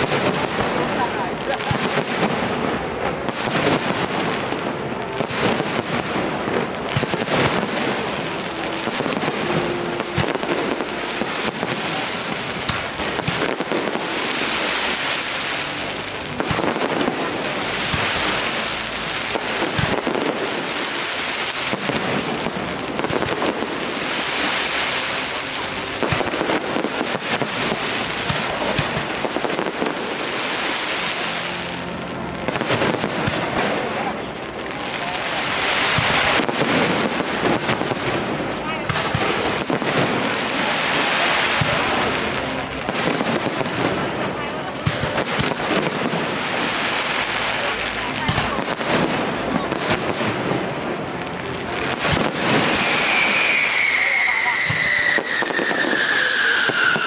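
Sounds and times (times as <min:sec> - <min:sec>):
fireworks bangs: 0:00.0 - 0:57.0
fireworks crackle: 0:00.0 - 0:57.0.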